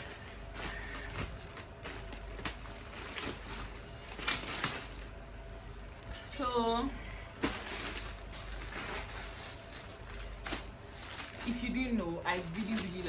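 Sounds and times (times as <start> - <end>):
packaging rustling: 0.0 - 5.2, 7.2 - 13.0.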